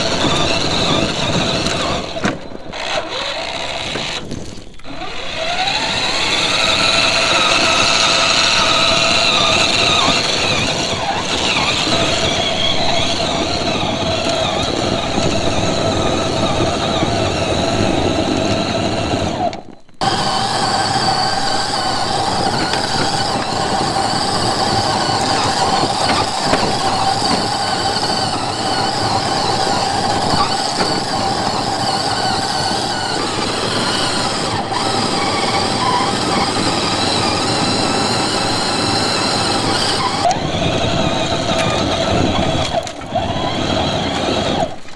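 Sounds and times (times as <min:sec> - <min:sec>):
electric motor and gears whining: 0:00.0 - 0:44.9.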